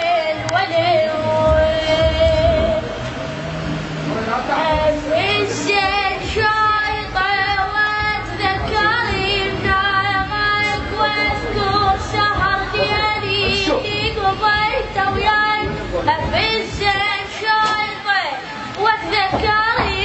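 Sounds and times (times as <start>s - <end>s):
person singing with vibrato: 0.0s - 3.0s, 4.4s - 20.0s
steady low hum: 0.0s - 20.0s.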